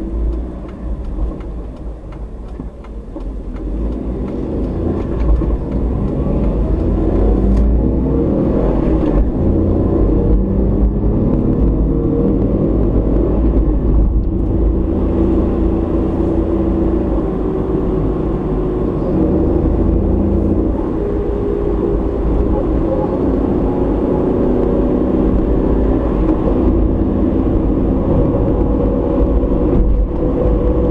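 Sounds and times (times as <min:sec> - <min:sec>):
car engine and road noise: 0:00.0 - 0:30.9.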